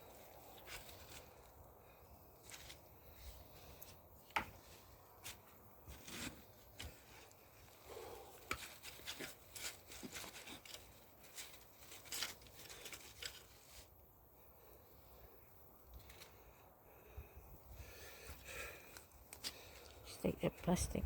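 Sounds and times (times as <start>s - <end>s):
garden debris rustling and crackling: 0.0s - 16.7s, 17.8s - 21.0s.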